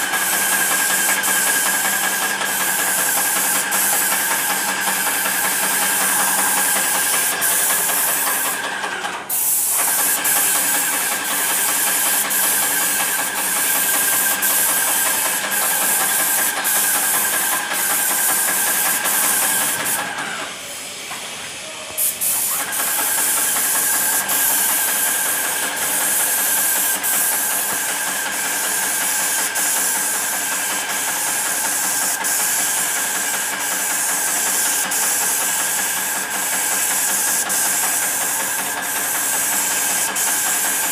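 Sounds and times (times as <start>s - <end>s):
paint sprayer hissing: 0.0s - 40.9s.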